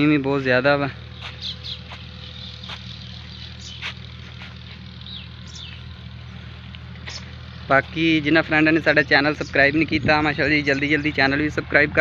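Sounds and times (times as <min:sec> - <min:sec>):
birds chirping: 0:00.0 - 0:12.0
water pump motor humming: 0:00.0 - 0:12.0.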